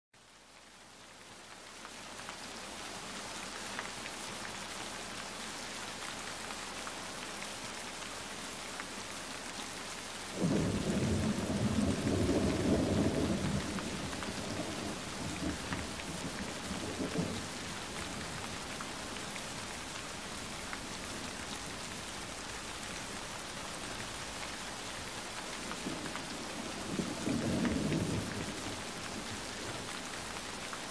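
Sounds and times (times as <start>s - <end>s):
steady rain falling: 0.2s - 30.9s.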